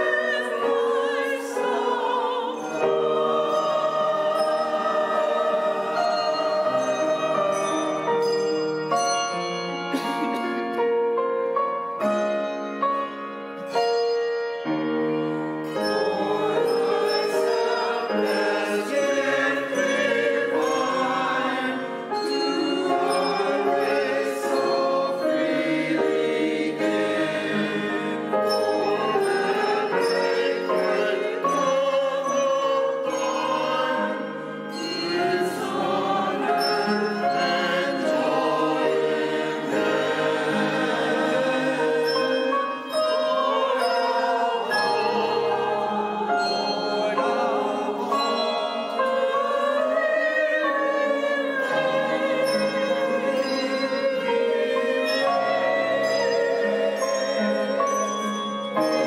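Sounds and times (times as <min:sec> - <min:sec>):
voices singing sacred music: 0:00.0 - 0:08.7, 0:15.6 - 0:59.0
piano accompaniment: 0:00.0 - 0:59.0.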